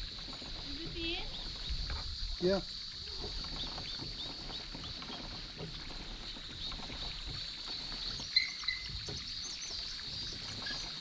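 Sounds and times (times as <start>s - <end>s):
kayak paddling on water: 0.0s - 11.0s.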